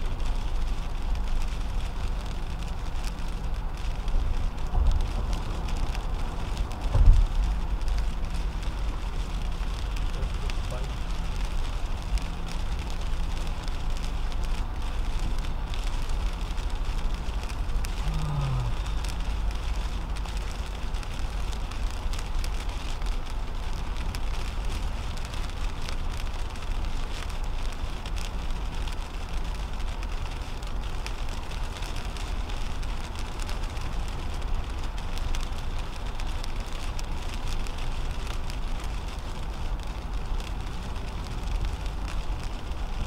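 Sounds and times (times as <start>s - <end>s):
rain on windshield: 0.0s - 43.0s
tyre hiss on wet road: 0.0s - 43.0s.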